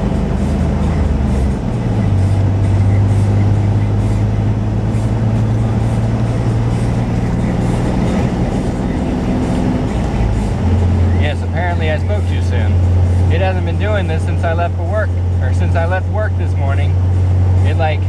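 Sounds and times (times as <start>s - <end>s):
pickup truck engine drone: 0.0s - 18.0s.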